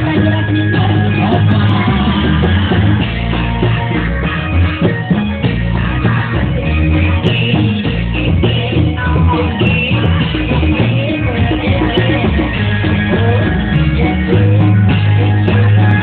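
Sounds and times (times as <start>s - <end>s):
woman singing into a microphone: 0.0s - 4.1s, 5.5s - 16.0s
traditional music over loudspeakers: 0.0s - 16.0s.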